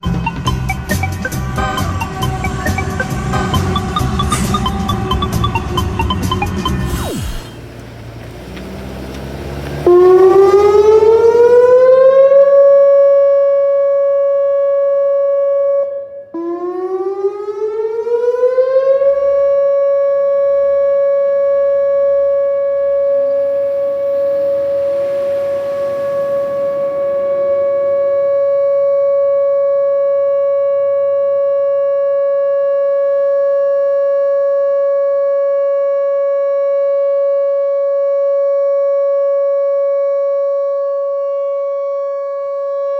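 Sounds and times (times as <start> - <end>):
electronic warning siren: 0.0 - 7.8, 9.8 - 42.9.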